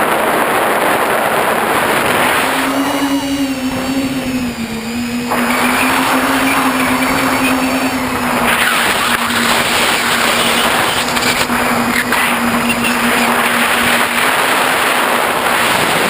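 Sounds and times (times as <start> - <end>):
drone motors humming: 0.0 - 16.0
wind on microphone: 0.0 - 16.0.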